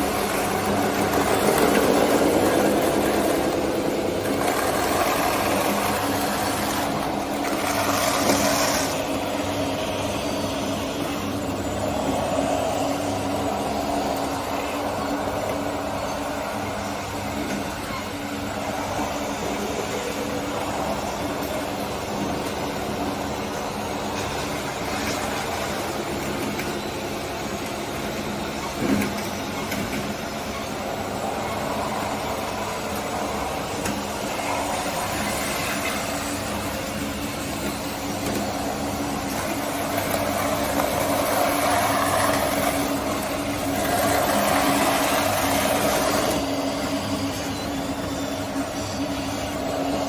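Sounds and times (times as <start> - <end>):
high mechanical whine: 0.0 - 50.0
toy construction machines humming: 0.0 - 50.0.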